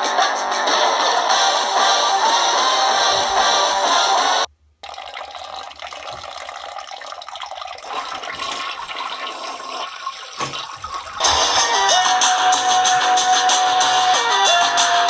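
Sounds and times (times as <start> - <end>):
toilet flushing: 2.1 - 14.4.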